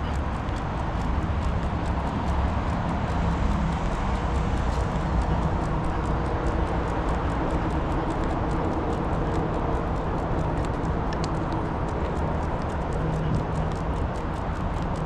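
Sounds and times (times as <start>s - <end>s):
footsteps in quick patter: 0.0s - 15.0s
steady low rumble: 0.0s - 15.0s.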